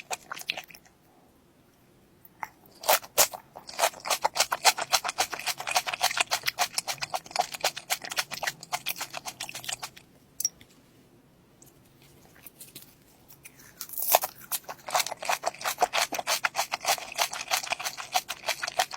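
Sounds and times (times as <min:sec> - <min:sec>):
crunching of fried food being chewed: 0:00.0 - 0:01.0, 0:02.3 - 0:10.0, 0:11.9 - 0:18.9.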